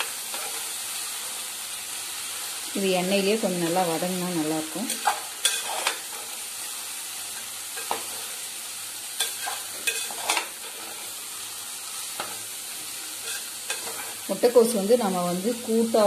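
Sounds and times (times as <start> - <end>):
cabbage sizzling in oil: 0.0 - 16.0.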